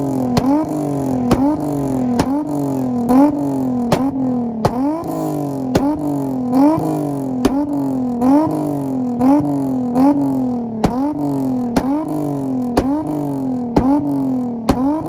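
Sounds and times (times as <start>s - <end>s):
car engine revving against limiter: 0.0s - 15.0s
exhaust cracks: 0.0s - 15.0s.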